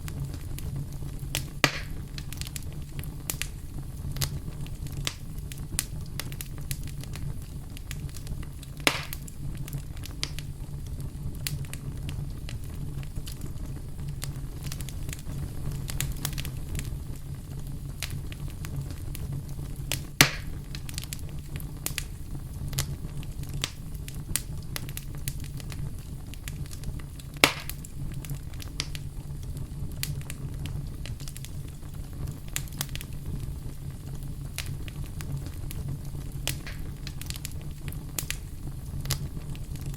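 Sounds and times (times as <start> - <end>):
campfire crackling and popping: 0.0 - 39.9
steady low rumble: 0.0 - 39.9.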